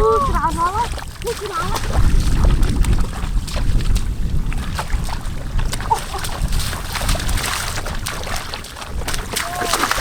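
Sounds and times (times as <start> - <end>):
water sloshing and splashing: 0.0 - 10.0
wind rumble on microphone: 0.0 - 10.0.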